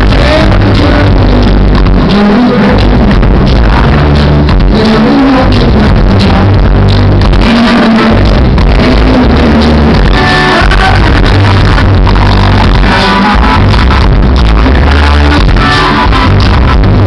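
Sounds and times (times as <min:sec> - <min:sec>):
live reggae band playing: 0:00.0 - 0:17.0
pulsing bass line: 0:00.0 - 0:17.0.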